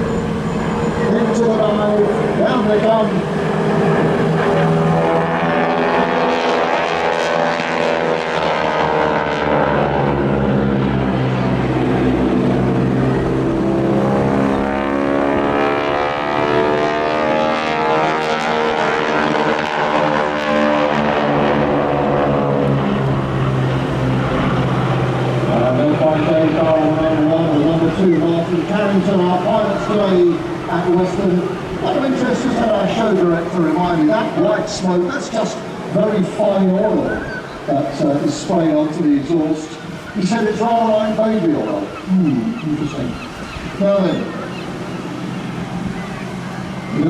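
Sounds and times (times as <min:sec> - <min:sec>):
biplane engines droning: 0:00.0 - 0:47.0.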